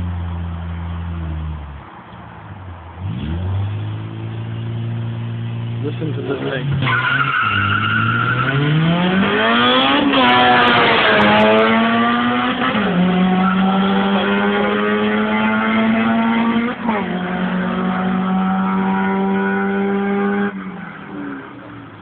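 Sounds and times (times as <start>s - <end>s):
car engine at full throttle: 0.0s - 22.0s
engine upshifts: 0.0s - 22.0s.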